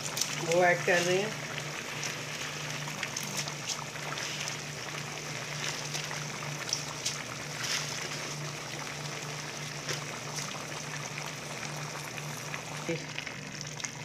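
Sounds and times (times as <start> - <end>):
water boiling in a pot: 0.0 - 14.0.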